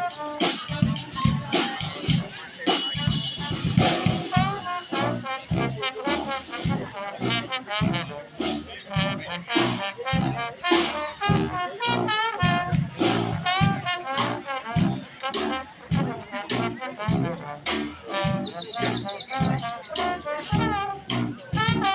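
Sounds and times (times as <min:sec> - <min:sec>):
brass band playing: 0:00.0 - 0:21.9.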